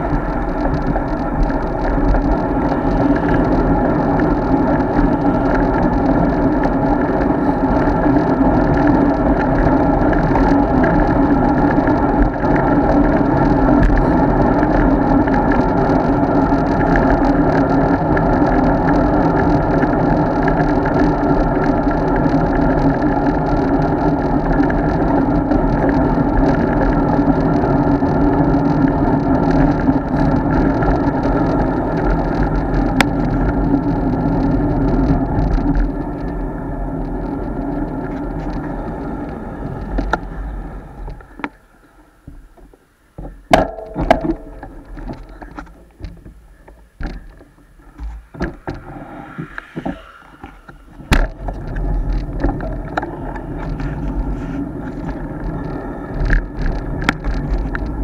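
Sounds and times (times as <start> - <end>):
tyres on road: 0.0 - 58.0
wind rumble: 0.0 - 58.0.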